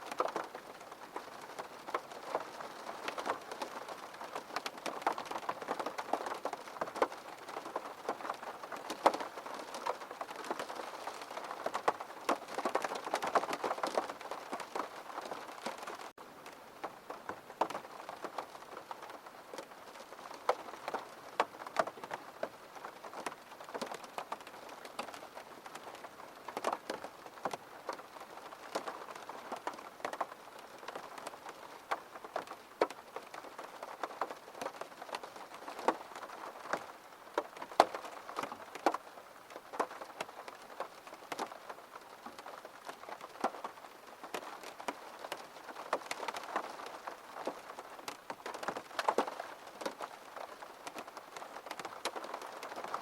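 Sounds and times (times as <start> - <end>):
raindrops ticking on hard surface: 0.0 - 53.0
soft rain hiss: 0.0 - 53.0.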